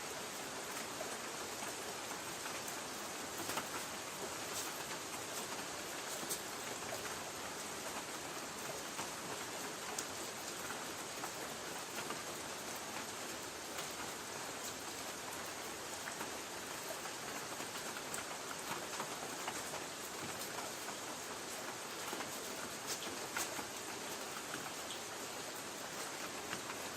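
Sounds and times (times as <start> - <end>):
rain on a tin roof: 0.0 - 26.9.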